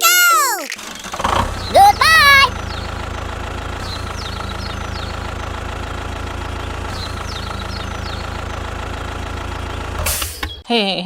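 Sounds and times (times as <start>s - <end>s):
tractor engine idling: 0.8s - 10.0s.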